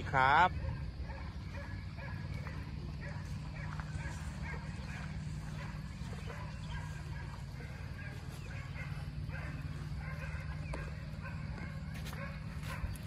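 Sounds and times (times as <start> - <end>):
dogs barking and yipping: 0.0 - 13.0
steady low rumble: 0.5 - 13.0.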